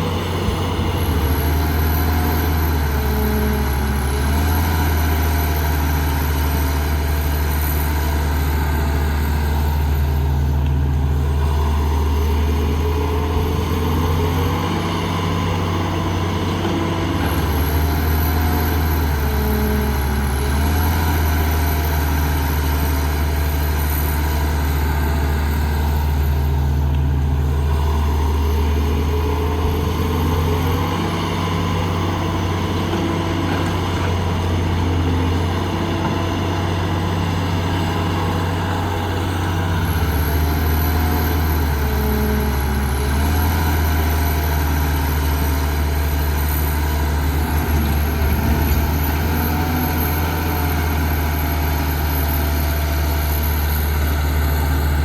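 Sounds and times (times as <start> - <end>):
construction machine diesel engine: 0.0 - 55.0.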